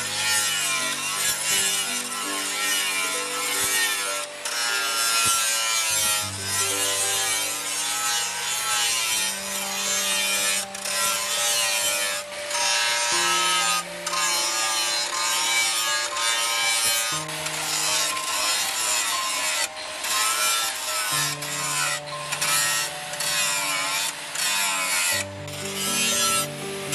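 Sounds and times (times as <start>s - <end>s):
angle grinder grinding steel: 0.0s - 26.9s.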